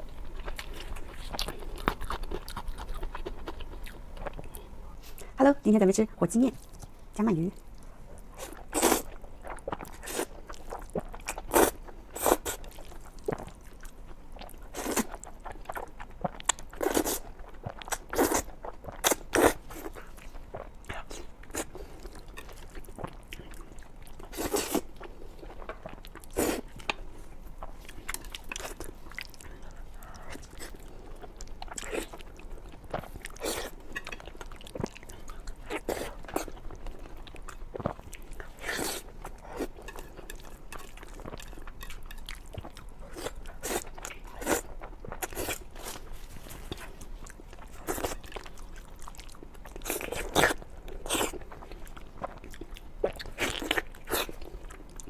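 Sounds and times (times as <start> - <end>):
person chewing noodles: 0.0 - 4.7, 7.6 - 55.0.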